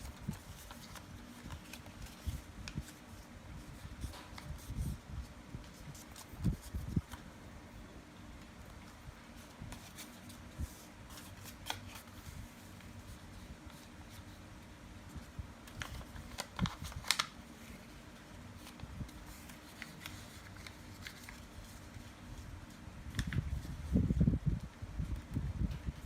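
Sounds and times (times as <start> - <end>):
paper crinkling and creasing: 0.0 - 7.3, 8.4 - 14.5, 15.1 - 26.0.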